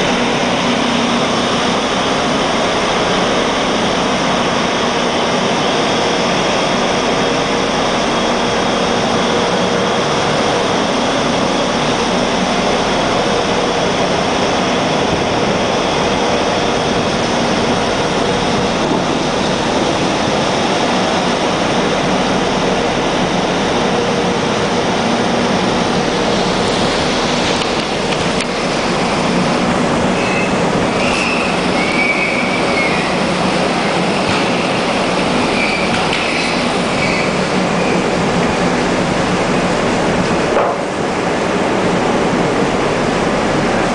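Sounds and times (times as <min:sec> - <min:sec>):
ship machinery rushing: 0:00.0 - 0:43.9
wind: 0:00.0 - 0:43.9.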